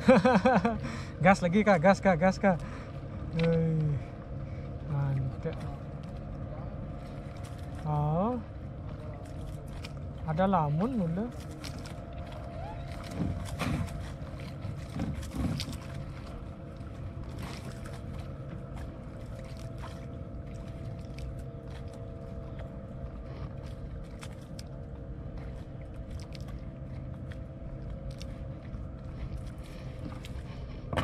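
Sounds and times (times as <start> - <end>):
boat motor running: 0.0 - 31.0.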